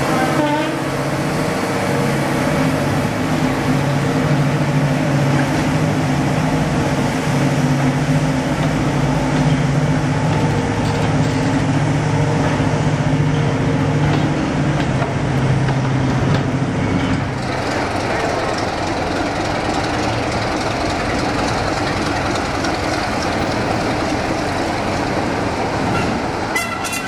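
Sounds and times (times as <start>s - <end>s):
diesel locomotive engine: 0.0s - 27.0s
train coaches rolling on track: 0.0s - 27.0s.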